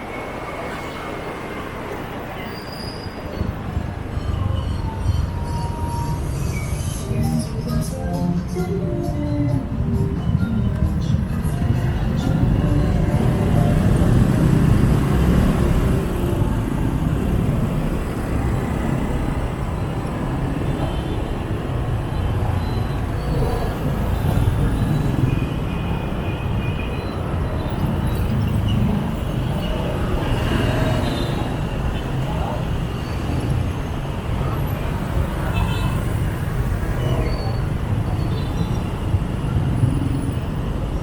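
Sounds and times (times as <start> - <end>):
passing cars: 3.1 - 26.5, 27.1 - 41.0
scooter engines rumbling: 3.1 - 41.0.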